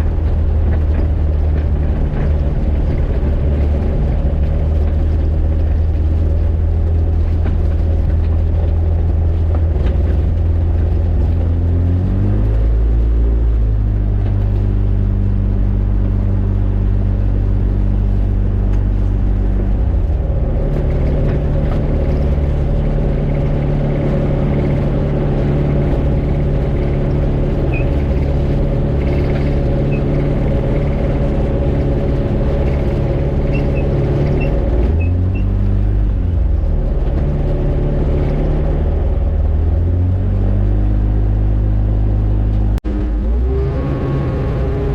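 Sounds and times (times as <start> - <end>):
microlight engine and propeller: 0.0 - 44.9.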